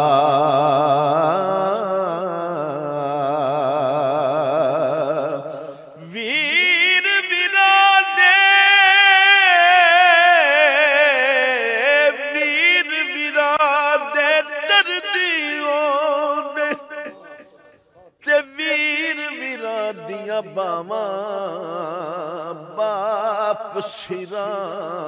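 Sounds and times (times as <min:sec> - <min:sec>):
man singing wordless notes: 0:00.0 - 0:25.0.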